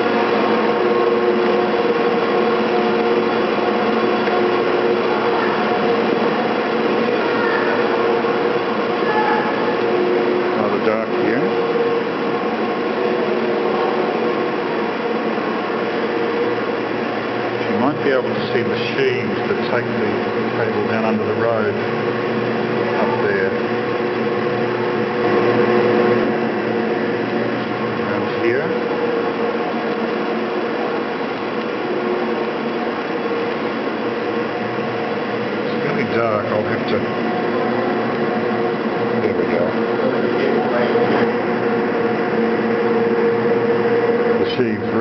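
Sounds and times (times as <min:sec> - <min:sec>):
machinery hum and whir: 0:00.0 - 0:45.0
steady tones: 0:00.0 - 0:45.0.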